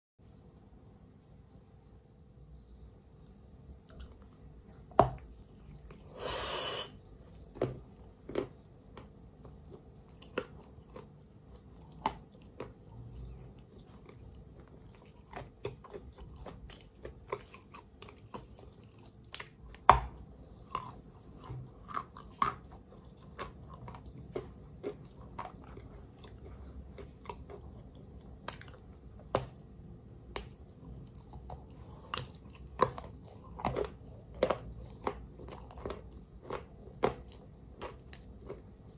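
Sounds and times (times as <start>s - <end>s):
wet chewing: 3.9s - 38.9s.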